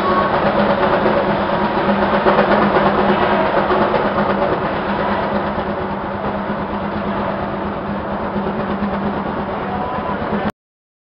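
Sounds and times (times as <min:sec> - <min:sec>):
old machinery clattering: 0:00.0 - 0:09.5
machinery hum: 0:00.0 - 0:10.5.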